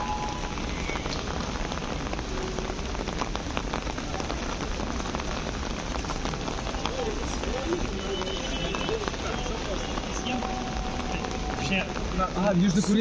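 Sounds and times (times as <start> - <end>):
rain falling on street: 0.0 - 13.0
raindrops ticking close by: 0.0 - 13.0.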